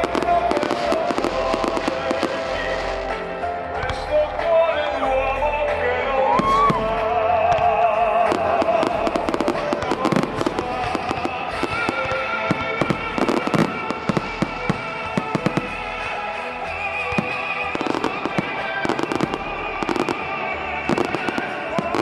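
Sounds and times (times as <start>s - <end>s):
fireworks cracking and popping: 0.0s - 3.4s, 6.3s - 22.0s
loud music with held tones: 0.0s - 22.0s.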